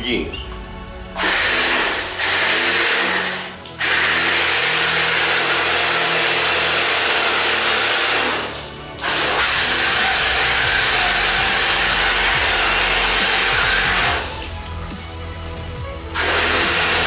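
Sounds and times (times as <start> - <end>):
electric pressure washer running: 1.1 - 17.0
water spraying through wash brush: 1.2 - 15.3, 16.1 - 17.0.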